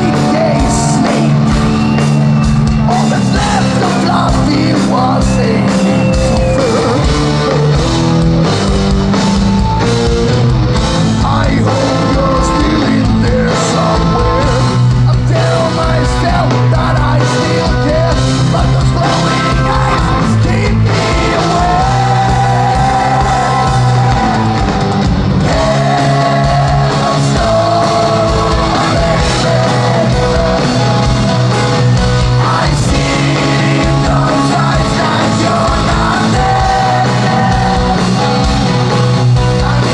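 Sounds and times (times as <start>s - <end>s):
man singing and shouting: 0.0s - 1.6s, 2.8s - 7.8s, 11.1s - 31.1s, 32.3s - 38.4s, 39.4s - 39.9s
live hard rock band: 0.0s - 39.9s.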